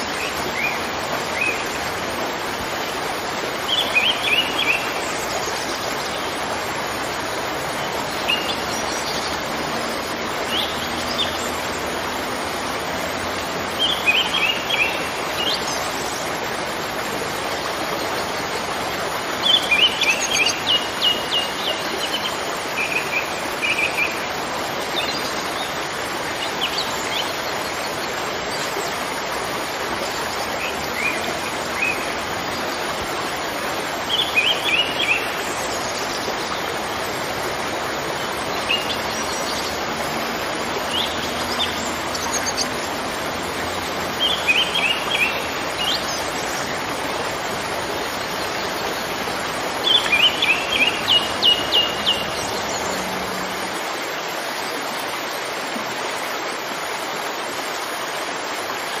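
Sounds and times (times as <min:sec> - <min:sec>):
birds chirping: 0:00.0 - 0:55.2
waterfall rushing: 0:00.0 - 0:59.0.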